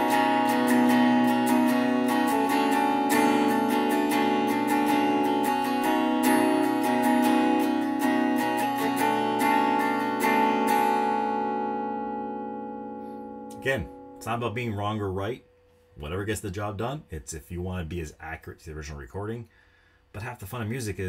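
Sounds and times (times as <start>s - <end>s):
electric guitar strumming chords: 0.0s - 18.2s.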